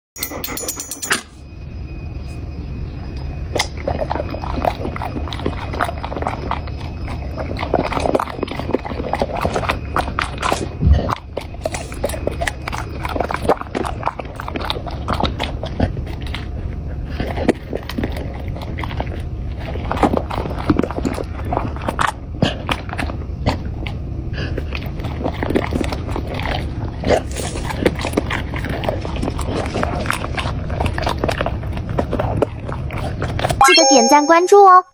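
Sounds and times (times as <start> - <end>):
crunchy chewing: 3.6 - 33.6.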